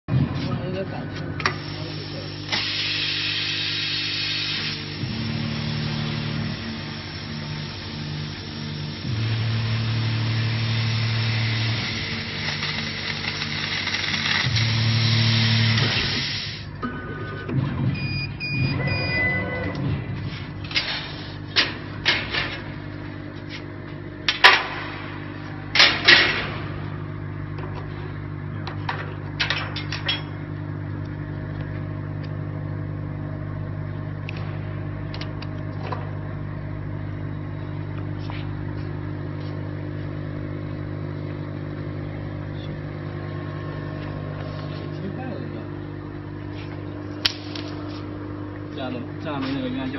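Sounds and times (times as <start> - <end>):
machine low hum: 0.1 - 49.9.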